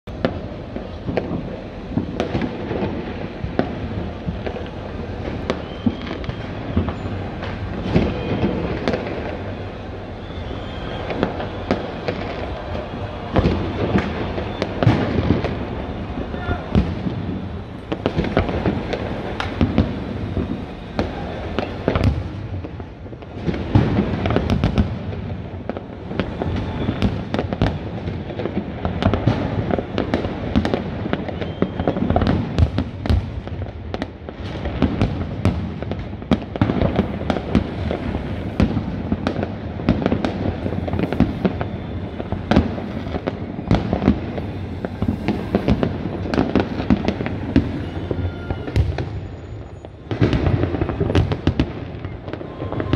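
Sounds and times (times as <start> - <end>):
distant fireworks rumble: 0.0 - 52.9
fireworks bangs and pops: 0.0 - 52.9.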